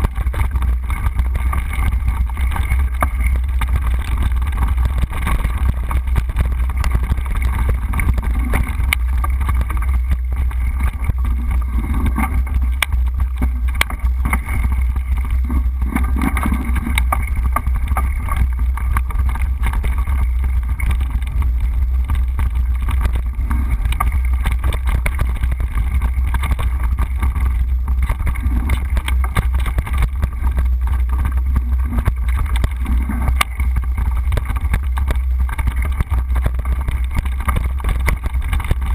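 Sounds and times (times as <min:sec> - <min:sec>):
bike rattling on rough trail: 0:00.0 - 0:38.9.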